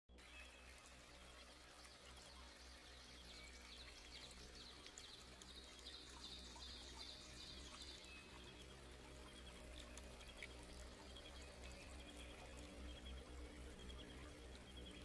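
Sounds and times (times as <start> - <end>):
soft steady hiss: 0.2 - 15.0.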